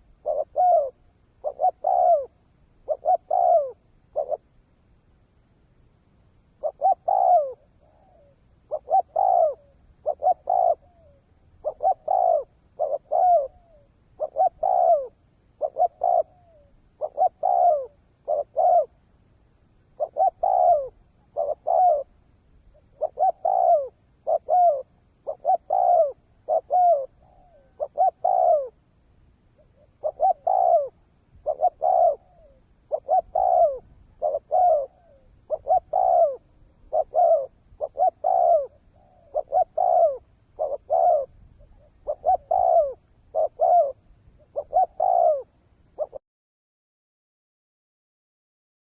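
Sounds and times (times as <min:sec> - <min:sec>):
dove cooing: 0:00.0 - 0:04.6, 0:06.6 - 0:19.0, 0:20.0 - 0:28.8, 0:29.5 - 0:46.2.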